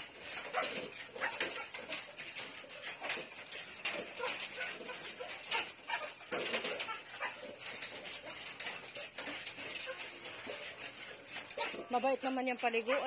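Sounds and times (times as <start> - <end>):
dogs barking and whining: 0.0 - 13.0.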